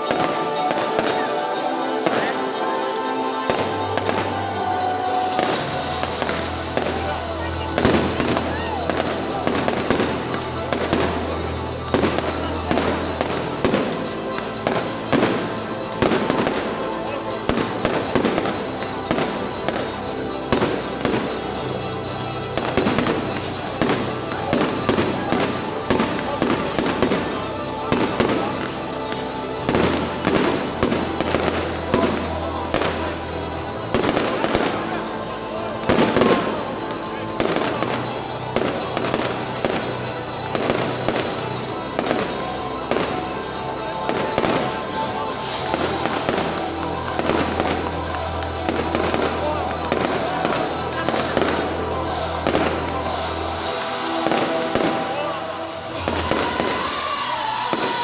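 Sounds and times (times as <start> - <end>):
fireworks bangs: 0.0 - 58.0
fireworks crackle: 0.0 - 58.0
music playing: 0.0 - 58.0.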